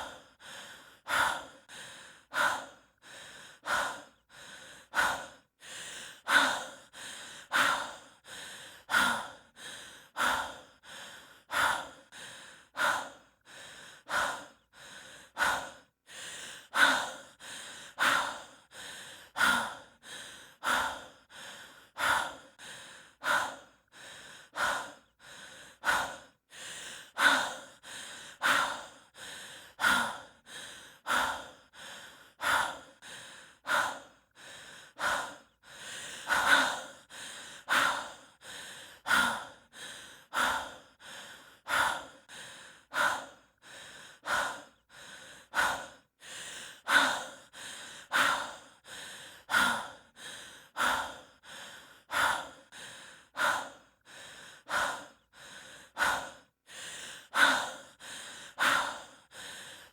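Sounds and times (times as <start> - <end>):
person breathing heavily: 0.0 - 59.9.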